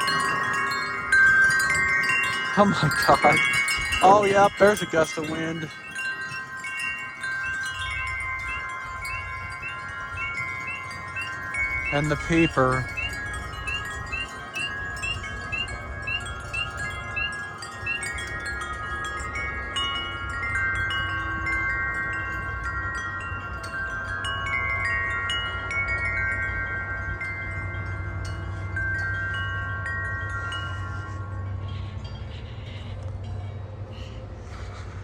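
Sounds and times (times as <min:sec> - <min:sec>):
low wind rumble: 0:00.0 - 0:35.0
wind chimes ringing: 0:00.0 - 0:35.0.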